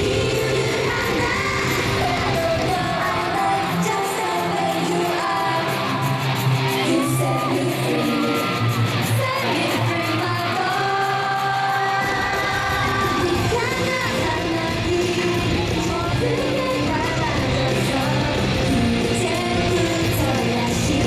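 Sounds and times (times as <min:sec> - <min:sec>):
fans yelling and cheering: 0:00.0 - 0:21.0
group singing live pop: 0:00.0 - 0:21.0
pop backing track: 0:00.0 - 0:21.0.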